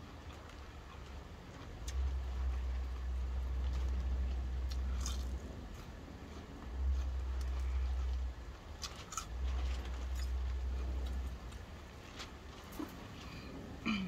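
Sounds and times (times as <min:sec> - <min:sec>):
chewing food: 0:00.0 - 0:13.2
low rumble: 0:00.0 - 0:14.0.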